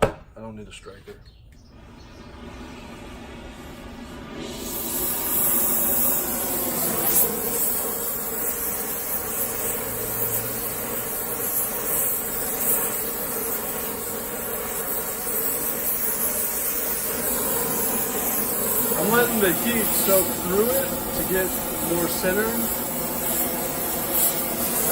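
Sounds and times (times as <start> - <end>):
gas torch flame hissing: 1.8 - 24.9.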